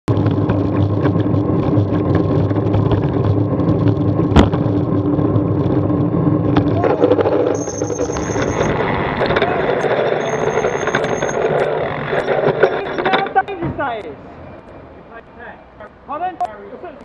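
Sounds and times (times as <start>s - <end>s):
bicycle tyre and wind noise: 0.1s - 14.8s
idling car engines: 0.1s - 17.0s
high steady squeal: 0.6s - 15.9s.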